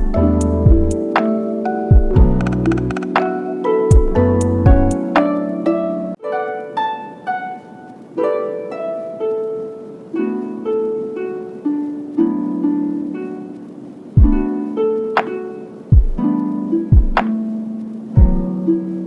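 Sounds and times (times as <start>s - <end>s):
plucked harp-like melody: 0.0s - 19.0s.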